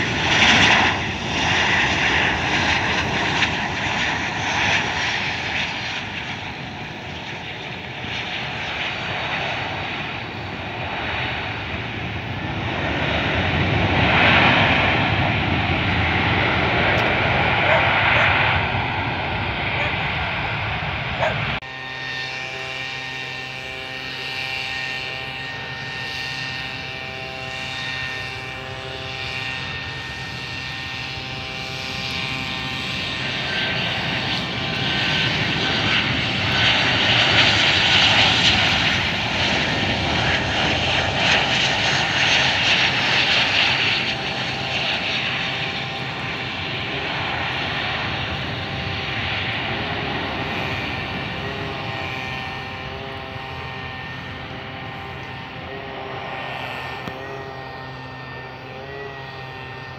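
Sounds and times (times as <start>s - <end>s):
jet engines whining and roaring: 0.0s - 59.9s.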